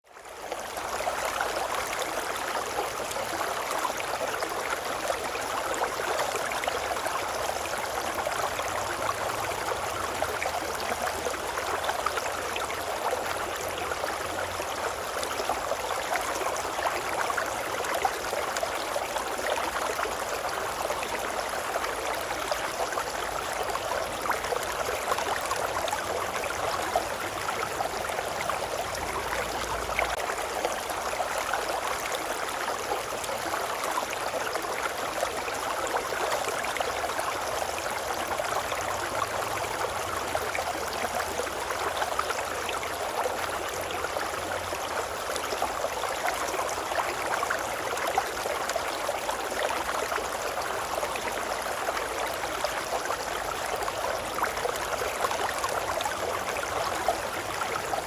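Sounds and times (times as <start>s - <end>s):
river water babbling: 0.1s - 58.0s.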